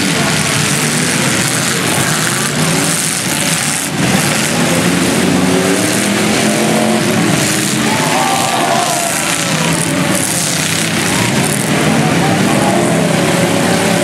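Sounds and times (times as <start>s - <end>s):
car engines revving: 0.0s - 14.0s
dense noise: 0.0s - 14.0s.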